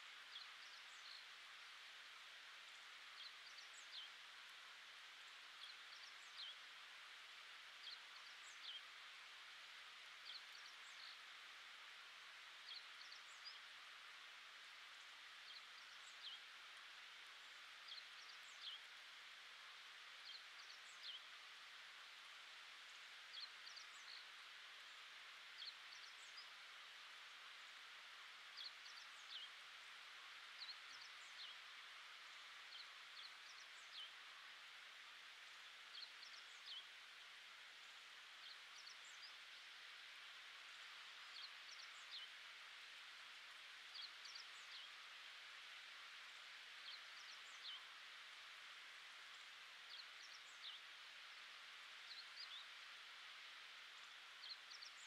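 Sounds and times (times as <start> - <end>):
small birds chirping: 0.0 - 55.0
steady soft hiss: 0.0 - 55.0.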